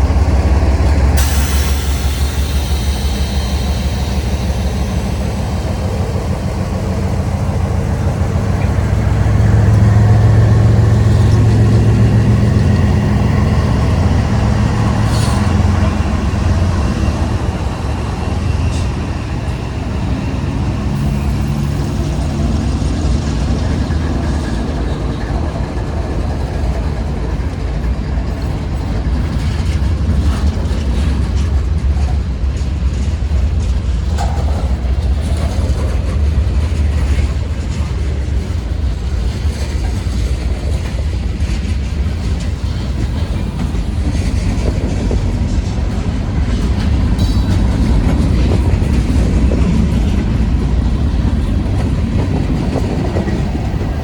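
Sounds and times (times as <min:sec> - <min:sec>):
freight train rumbling: 0:00.0 - 0:54.0
train wheel clicks: 0:00.1 - 0:16.7, 0:23.3 - 0:54.0.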